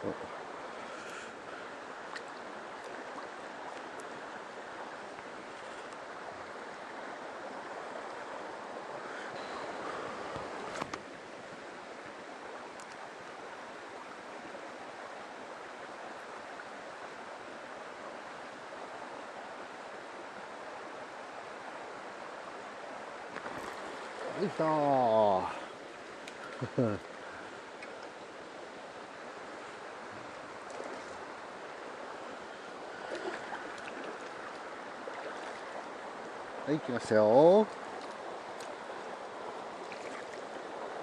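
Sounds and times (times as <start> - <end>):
stream water rushing: 0.0 - 41.0.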